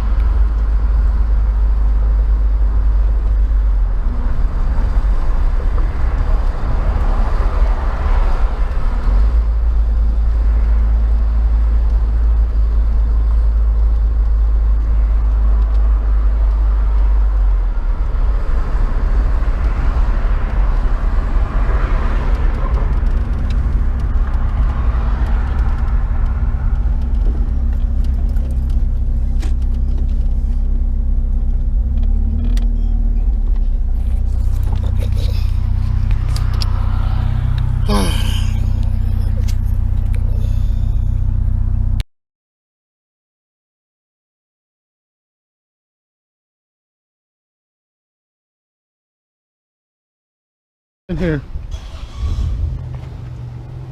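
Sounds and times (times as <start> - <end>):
vehicle engine and road rumble: 0.0 - 42.1, 51.1 - 53.9.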